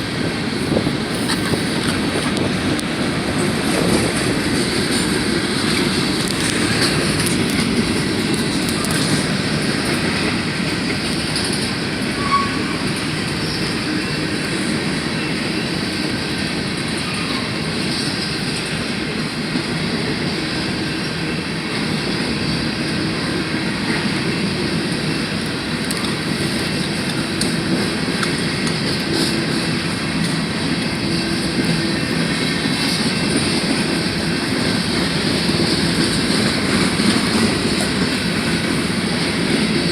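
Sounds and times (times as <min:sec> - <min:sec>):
railroad cars rolling past: 0:00.0 - 0:39.9.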